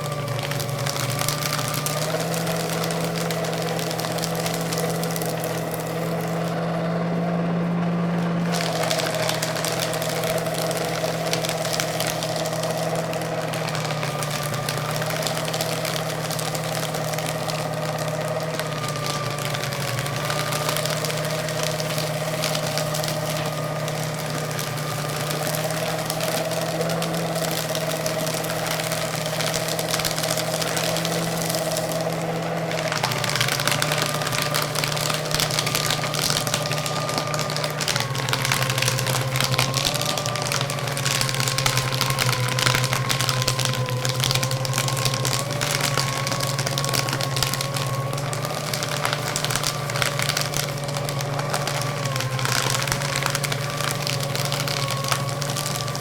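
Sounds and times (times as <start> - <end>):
paper shredder shredding paper: 0.0 - 56.0.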